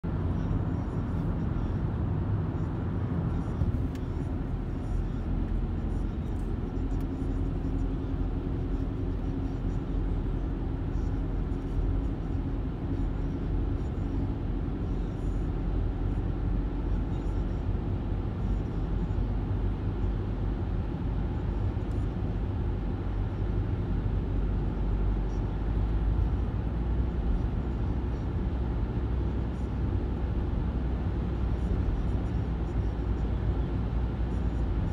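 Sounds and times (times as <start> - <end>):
car road noise from cabin: 0.0 - 34.9.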